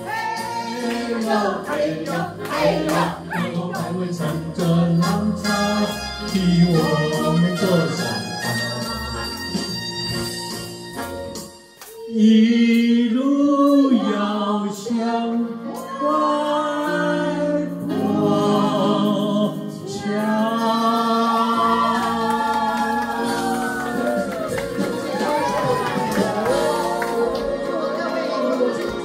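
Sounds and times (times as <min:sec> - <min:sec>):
group singing in harmony: 0:00.0 - 0:06.5, 0:12.2 - 0:29.0
backing accompaniment: 0:00.0 - 0:11.8, 0:16.9 - 0:29.0.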